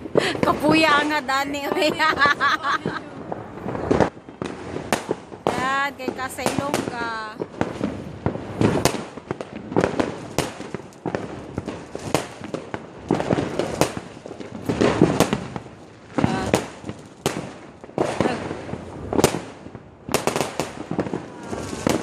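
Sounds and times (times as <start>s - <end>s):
fireworks bangs: 0.0s - 22.0s
fireworks pops and crackles: 0.0s - 22.0s.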